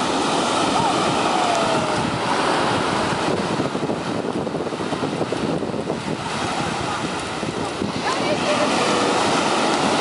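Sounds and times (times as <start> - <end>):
ocean surf washing ashore: 0.0 - 10.0
wind buffeting microphone: 0.0 - 10.0.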